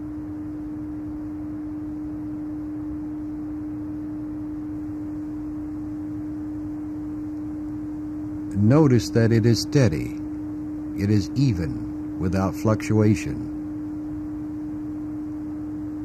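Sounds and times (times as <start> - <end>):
low steady test tone: 0.0 - 16.0.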